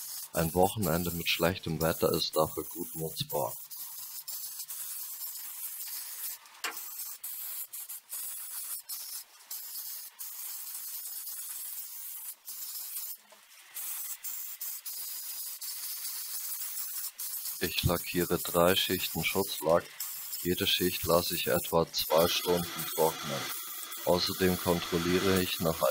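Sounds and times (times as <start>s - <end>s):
aerosol spray can hissing: 0.0s - 25.9s.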